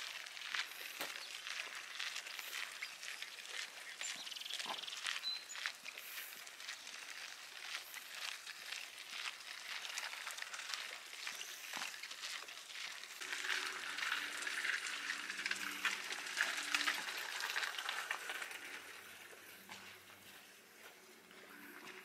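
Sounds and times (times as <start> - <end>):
footsteps crunching on gravel: 0.0 - 22.0.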